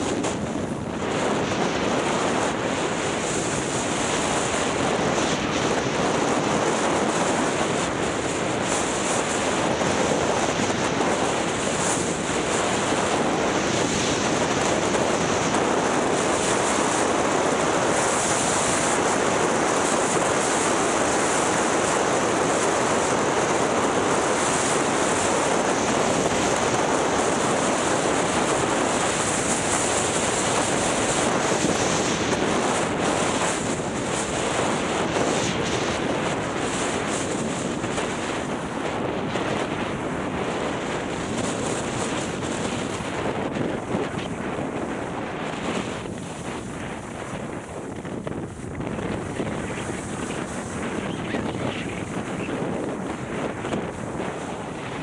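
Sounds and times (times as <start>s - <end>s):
wind over microphone: 0.0s - 55.0s.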